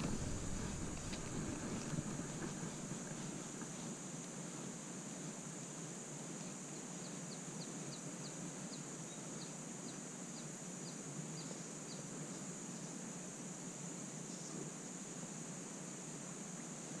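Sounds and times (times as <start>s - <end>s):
high insect drone: 0.0s - 17.0s
low hiss: 0.0s - 17.0s.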